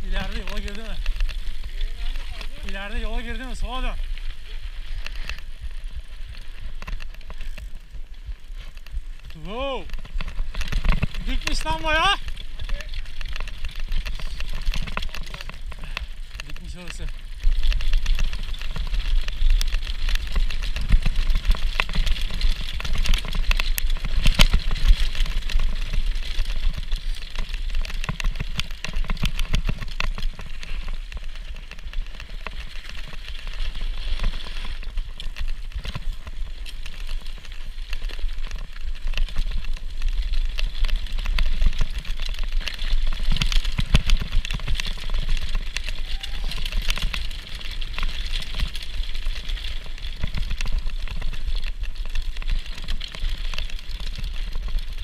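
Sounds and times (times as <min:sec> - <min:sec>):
mountain bike clattering and rattling: 0:00.0 - 0:55.0
wind rumble on camera: 0:00.0 - 0:55.0.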